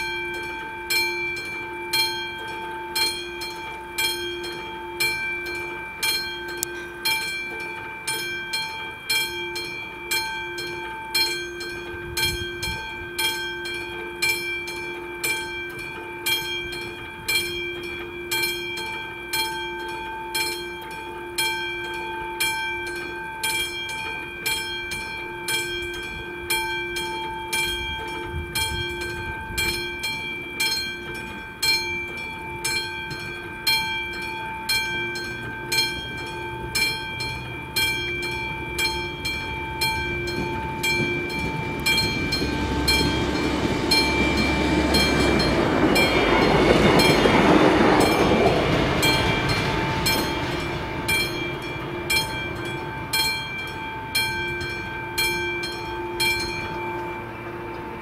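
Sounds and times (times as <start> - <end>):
level crossing warning bell ringing: 0.0 - 58.0
train rumbling past: 0.0 - 58.0.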